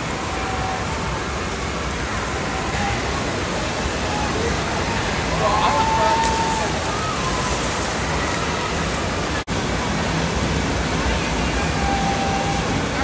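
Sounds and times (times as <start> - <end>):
rushing water in water park: 0.0 - 13.0.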